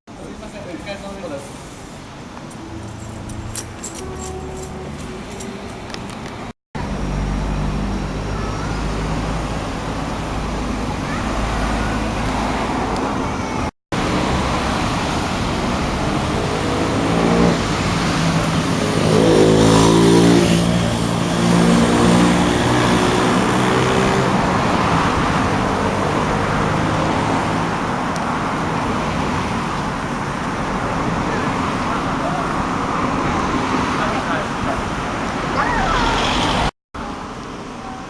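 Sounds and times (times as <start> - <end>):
background traffic noise: 0.1 - 38.0.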